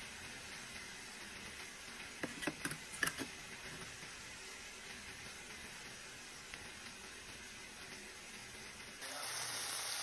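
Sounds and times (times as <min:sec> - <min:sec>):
vegetables sizzling: 0:00.0 - 0:10.0.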